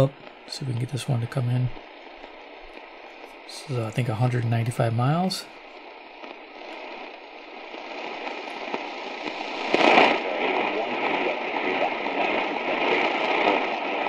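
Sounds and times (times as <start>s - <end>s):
faint radio programme audio: 0.0s - 14.0s
radio static hiss: 0.0s - 14.0s.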